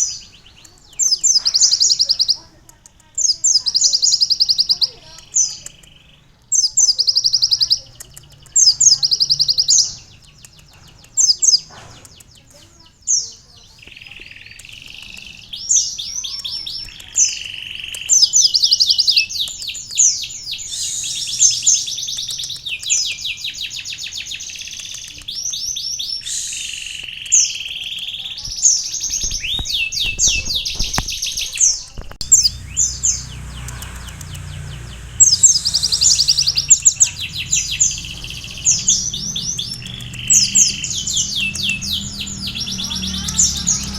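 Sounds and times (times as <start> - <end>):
sunbird singing rapid trills: 0.0 - 43.9.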